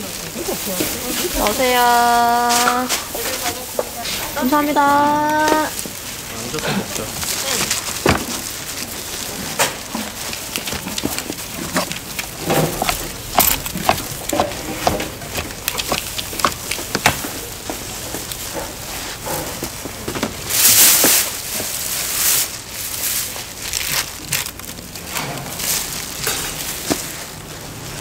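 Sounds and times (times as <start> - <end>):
loud rustling: 0.0 - 28.0.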